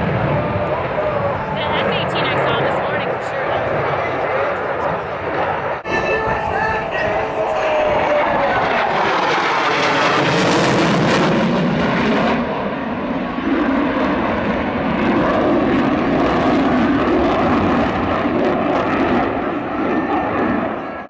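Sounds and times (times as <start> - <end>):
fighter jet flying over: 0.0 - 21.0.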